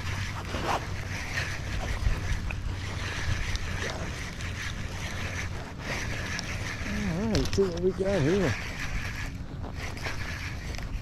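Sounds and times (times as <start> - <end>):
spinning reel whirring: 0.0 - 11.0
wind rumbling on microphone: 0.0 - 11.0.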